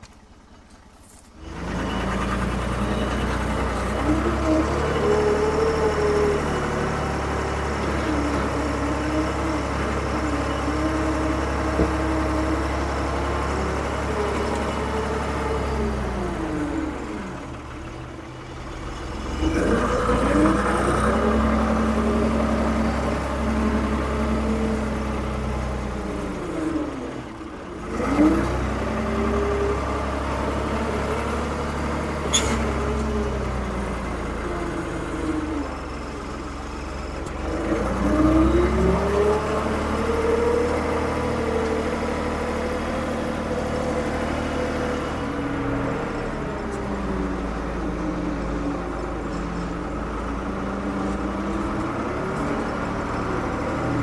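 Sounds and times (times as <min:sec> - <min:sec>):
diesel engine revving: 0:01.4 - 0:54.0.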